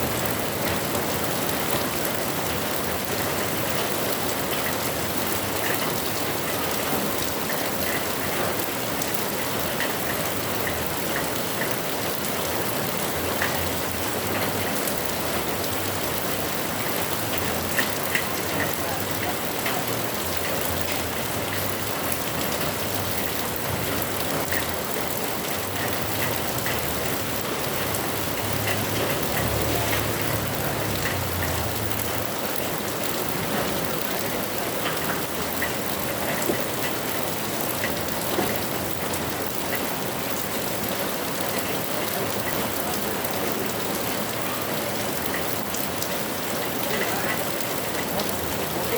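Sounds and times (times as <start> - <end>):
drips and splashes: 0.0 - 48.9
heavy rain falling: 0.0 - 48.9.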